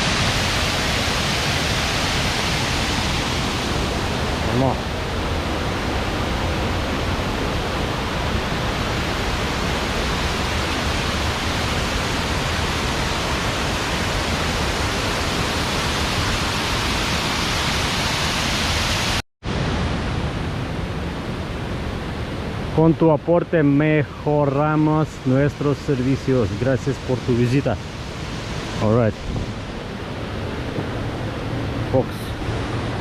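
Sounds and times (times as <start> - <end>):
waterfall rushing: 0.0 - 20.7, 24.4 - 33.0.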